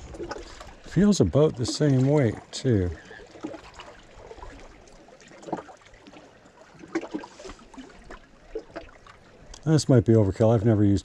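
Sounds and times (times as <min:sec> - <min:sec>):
water lapping on rocks: 0:00.0 - 0:11.0.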